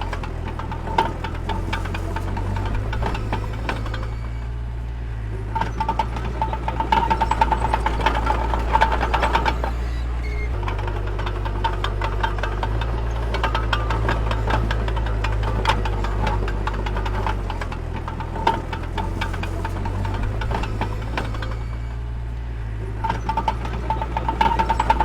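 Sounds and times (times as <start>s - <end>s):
metal clanking and rattling: 0.0s - 4.5s, 5.5s - 22.0s, 23.0s - 25.0s
bulldozer diesel engine running: 0.0s - 25.0s.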